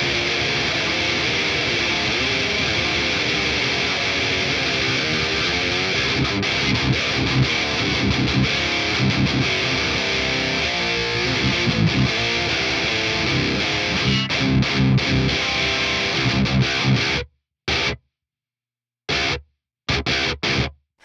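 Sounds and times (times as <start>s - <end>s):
distorted electric guitar riffs: 0.0s - 18.0s, 19.1s - 20.8s.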